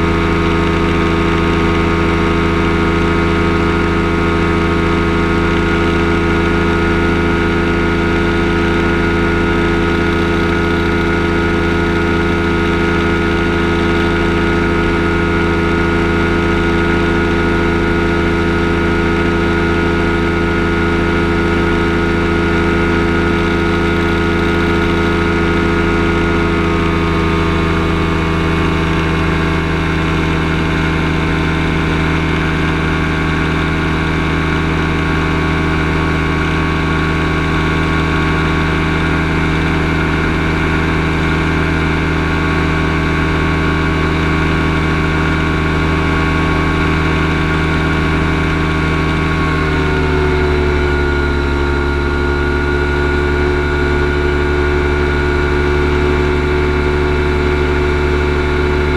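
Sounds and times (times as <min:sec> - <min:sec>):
aircraft engine and propeller: 0:00.0 - 0:58.9.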